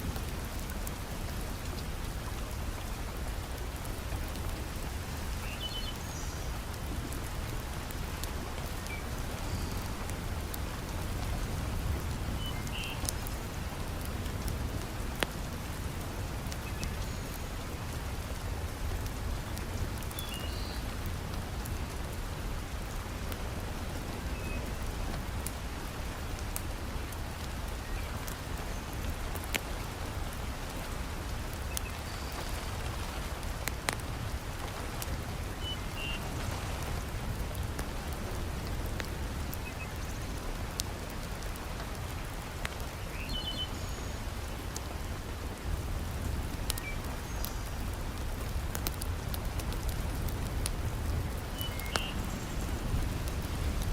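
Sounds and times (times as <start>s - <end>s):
wood fire crackling: 0.0s - 43.3s, 44.2s - 53.9s
heavy rain falling: 0.0s - 53.9s.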